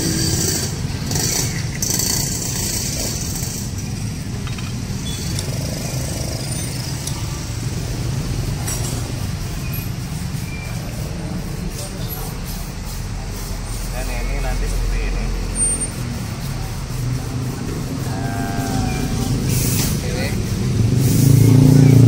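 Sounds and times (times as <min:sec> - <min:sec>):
motor vehicles rumbling: 0:00.0 - 0:22.0.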